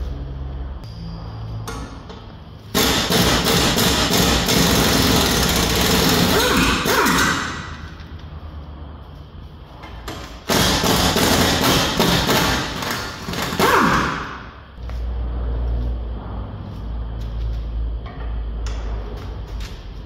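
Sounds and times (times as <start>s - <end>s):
steady low hum: 0.0s - 13.5s, 14.2s - 20.0s.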